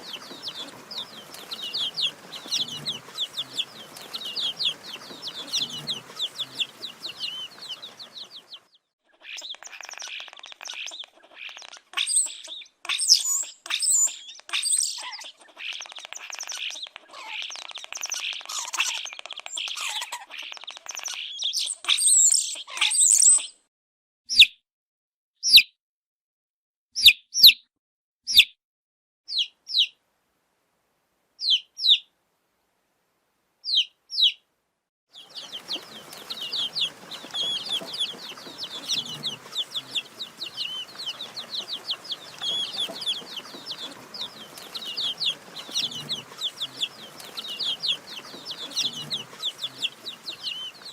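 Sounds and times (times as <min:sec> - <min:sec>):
baby chicks peeping: 0:00.0 - 0:23.5, 0:29.3 - 0:30.0, 0:31.4 - 0:32.1, 0:33.6 - 0:34.4, 0:35.1 - 0:50.9.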